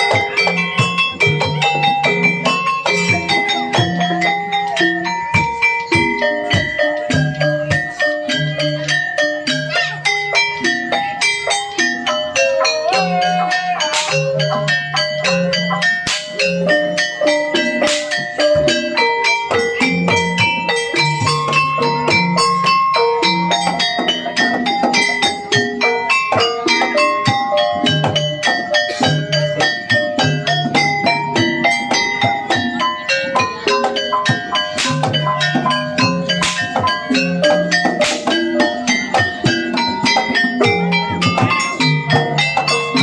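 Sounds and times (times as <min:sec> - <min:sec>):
drums: 0:00.0 - 0:43.0
struck metallophones melody: 0:00.0 - 0:43.0.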